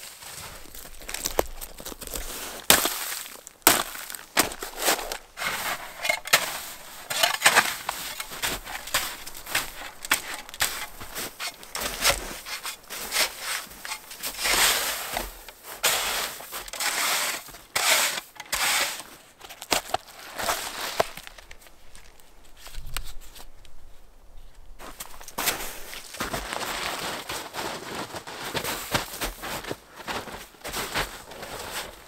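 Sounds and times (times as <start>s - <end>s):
footsteps crunching in snow: 0.0s - 23.5s, 24.8s - 32.0s.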